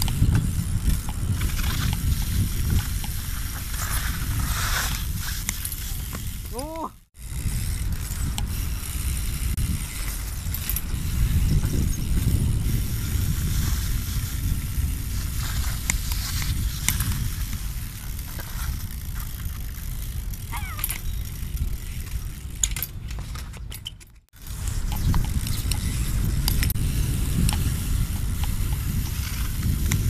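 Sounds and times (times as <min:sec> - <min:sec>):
wind rumble on microphone: 0:00.0 - 0:23.7, 0:24.4 - 0:30.0
bike clicks and knocks: 0:00.0 - 0:30.0
bike squeak: 0:00.0 - 0:30.0
bike tyres rolling on stone: 0:00.0 - 0:30.0.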